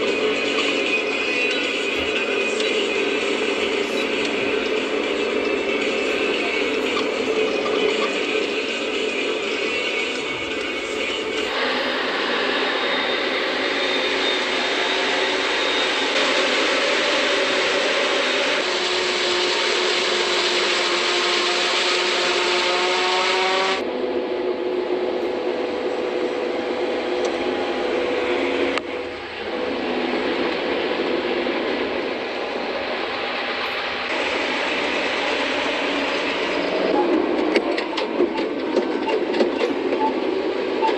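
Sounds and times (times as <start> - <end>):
harvesting machine engine drone: 0.0 - 40.9.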